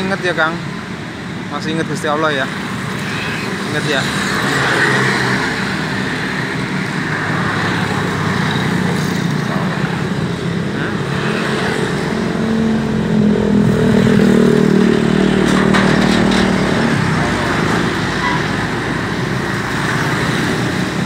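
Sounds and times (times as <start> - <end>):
car engines passing: 0.0 - 21.0
motorcycle engines: 0.0 - 21.0.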